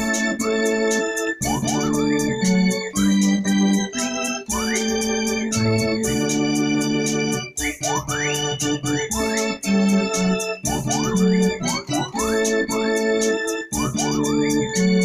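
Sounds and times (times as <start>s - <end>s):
keyboard organ hymn chords: 0.0s - 15.0s
ticking beat: 0.0s - 15.0s.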